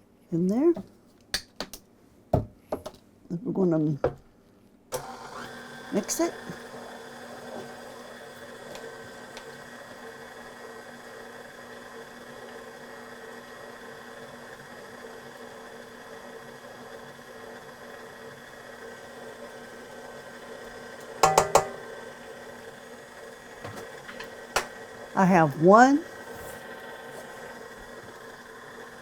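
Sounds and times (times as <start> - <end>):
electric mixer running: 5.0 - 29.0.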